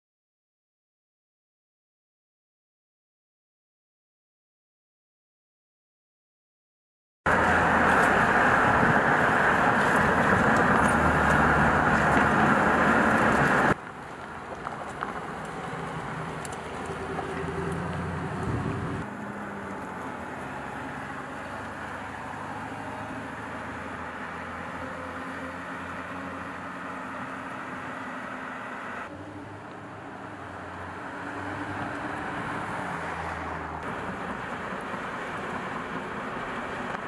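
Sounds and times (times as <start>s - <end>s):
car driving along street: 7.3s - 37.0s
loud car engine running: 7.3s - 37.0s.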